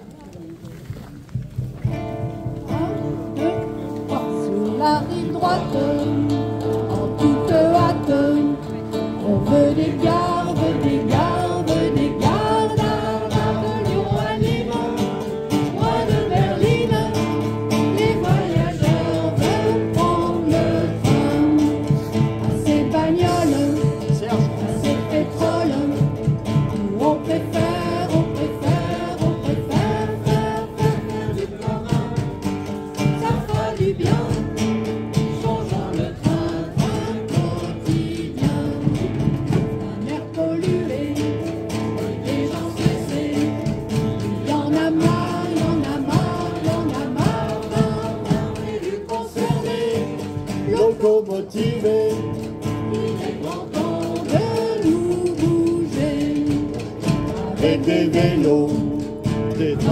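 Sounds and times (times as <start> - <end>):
guitar accompaniment: 0.0 - 59.9
person singing: 2.6 - 59.9.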